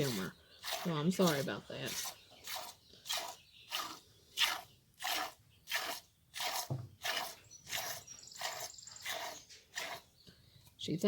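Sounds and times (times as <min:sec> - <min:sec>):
milk squirting into pail: 0:00.0 - 0:10.0.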